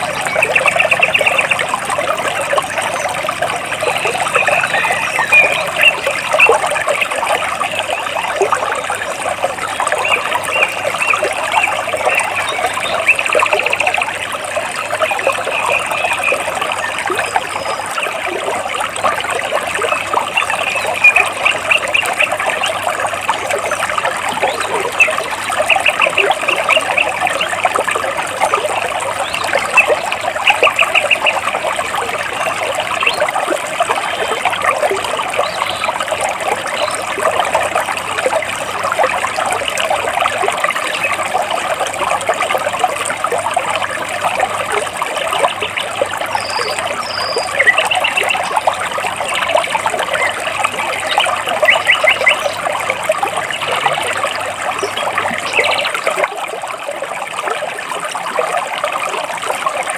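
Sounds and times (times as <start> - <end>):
water splashing over rocks: 0.0 - 59.9.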